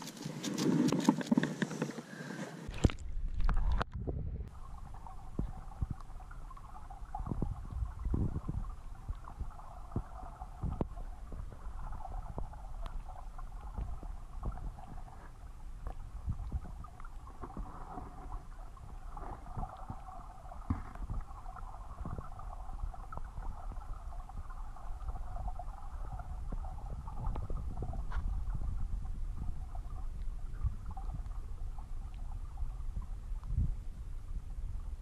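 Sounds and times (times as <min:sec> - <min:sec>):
muffled underwater stream rush: 0:00.0 - 0:35.0.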